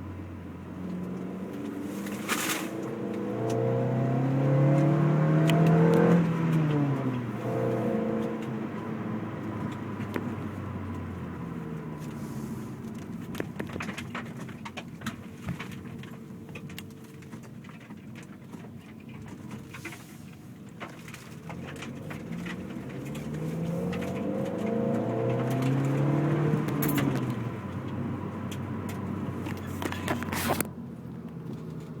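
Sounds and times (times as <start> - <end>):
car engine revving: 0.0 - 16.2, 21.2 - 30.7.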